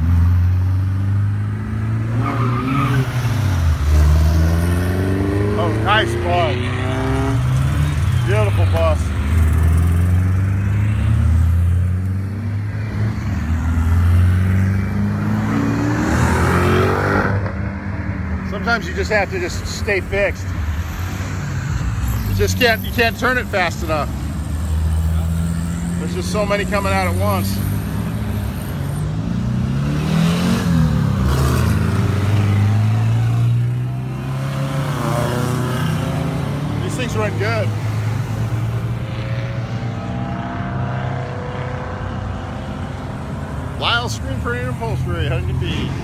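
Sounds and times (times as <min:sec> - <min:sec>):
car engines driving past: 0:00.0 - 0:46.0.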